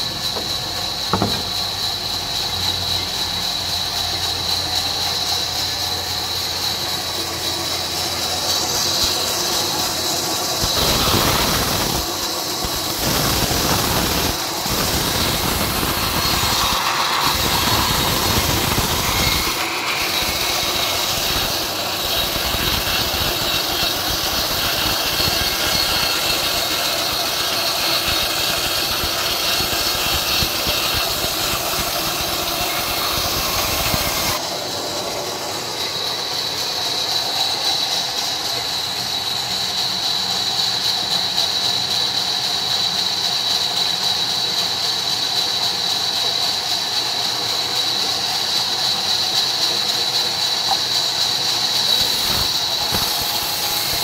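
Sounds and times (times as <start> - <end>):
band saw whine: 0.0 - 54.0
saw cutting through log: 0.0 - 54.0.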